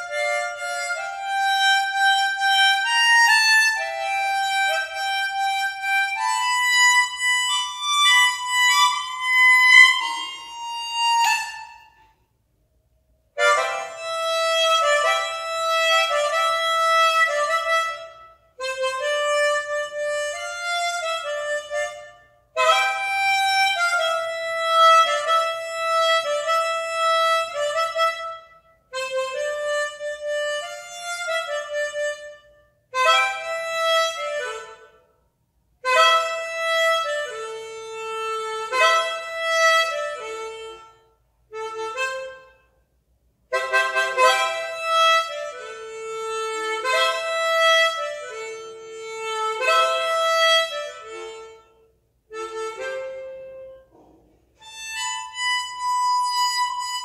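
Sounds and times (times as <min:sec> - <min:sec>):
solo harmonica melody: 0:00.0 - 0:12.2, 0:13.3 - 0:54.0, 0:54.6 - 0:57.0.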